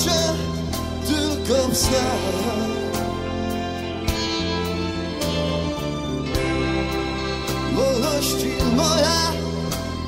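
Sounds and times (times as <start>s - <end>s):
slow song with vocals: 0.0s - 6.1s, 7.2s - 10.0s.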